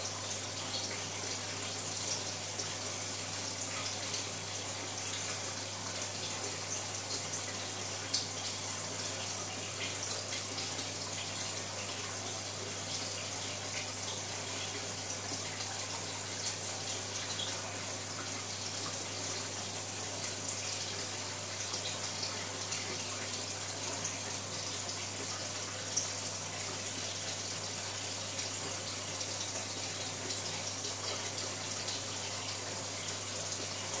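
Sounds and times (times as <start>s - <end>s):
water running and splashing: 0.0s - 34.0s.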